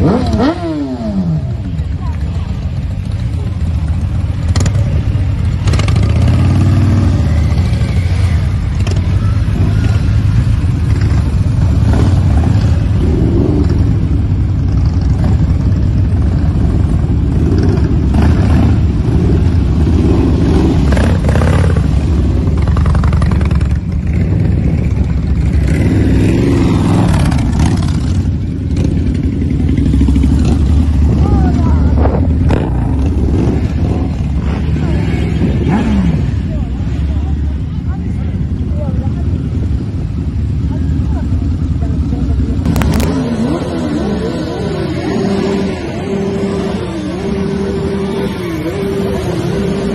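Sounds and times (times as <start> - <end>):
motorcycle engines revving: 0.0 - 49.9.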